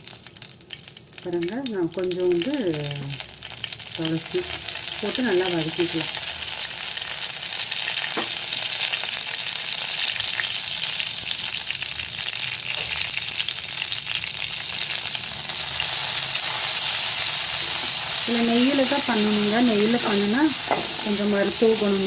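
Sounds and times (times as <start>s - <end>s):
leaves sizzling in hot ghee: 0.0s - 22.0s.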